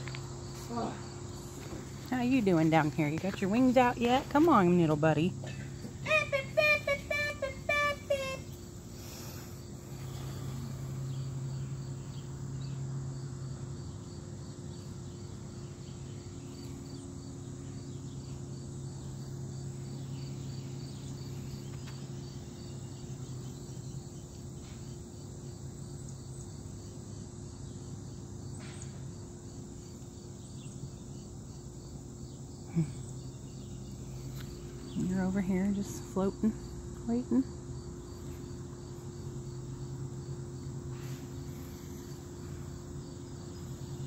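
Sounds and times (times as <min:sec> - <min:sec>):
insects chirping: 0:00.0 - 0:44.0
steady low hum: 0:00.0 - 0:44.0.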